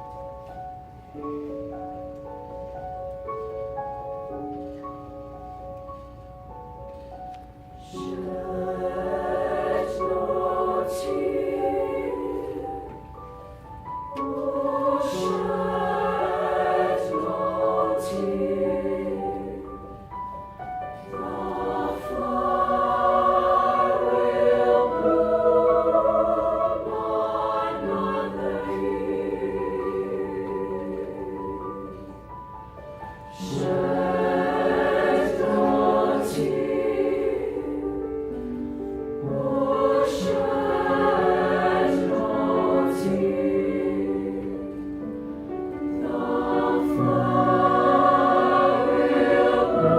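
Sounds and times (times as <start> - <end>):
choir singing: 7.8 - 49.9.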